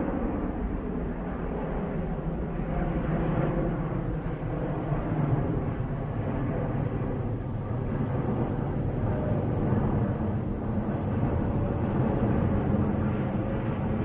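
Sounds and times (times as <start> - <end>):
jet engines low rumble overhead: 0.0 - 14.0.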